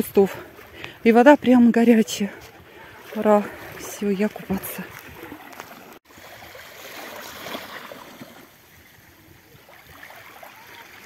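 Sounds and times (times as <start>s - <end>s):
small waves lapping at shore: 0.0s - 11.0s.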